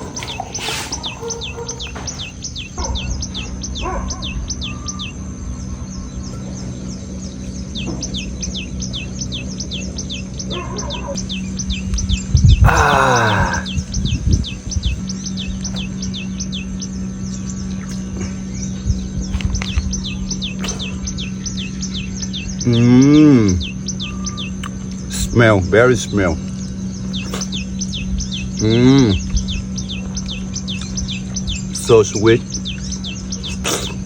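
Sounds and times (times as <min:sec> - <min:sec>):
bird chirping: 0:00.0 - 0:34.0
steady low hum: 0:00.0 - 0:34.0.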